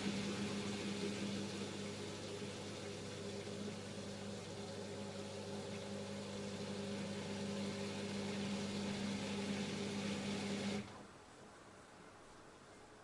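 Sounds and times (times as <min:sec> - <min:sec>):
washing machine humming: 0:00.0 - 0:11.4.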